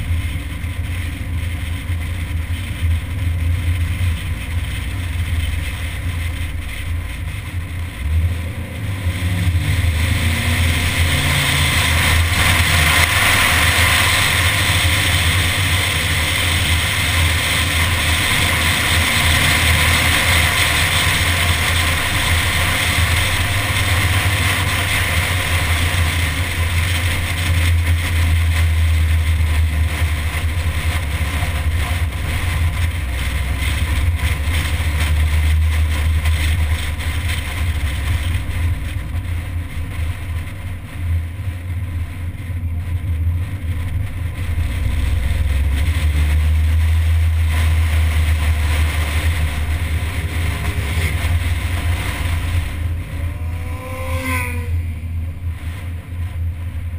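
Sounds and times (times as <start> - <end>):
car engine: 0.0 - 56.9
tyre road noise: 0.0 - 56.9
wind rumble on microphone: 0.0 - 56.9.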